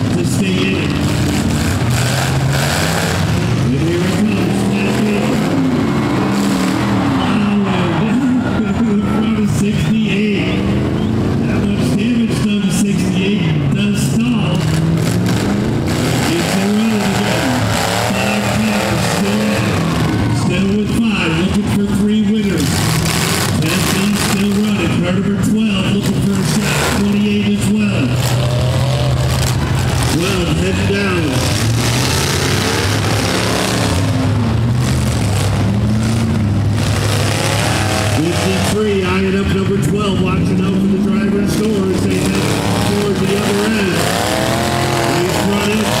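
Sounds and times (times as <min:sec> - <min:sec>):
car engines revving: 0:00.0 - 0:46.0.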